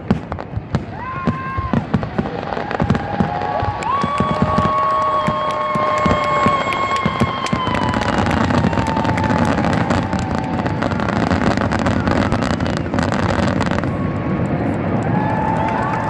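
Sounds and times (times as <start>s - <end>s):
crowd noise: 0.0s - 16.0s
fireworks crackling: 0.0s - 16.0s.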